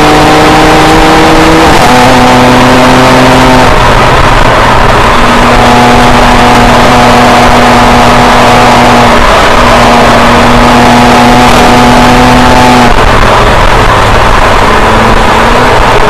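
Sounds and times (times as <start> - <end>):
car engine running hard: 0.0 - 16.0
wind and road noise: 0.0 - 16.0.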